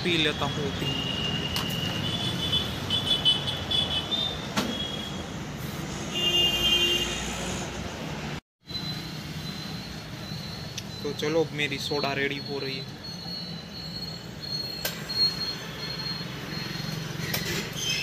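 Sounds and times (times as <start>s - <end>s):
road traffic hum: 0.0s - 18.0s.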